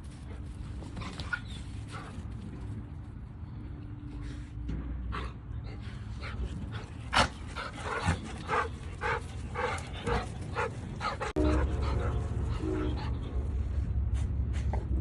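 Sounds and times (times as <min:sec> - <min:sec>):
constant low rumble: 0:00.0 - 0:15.0.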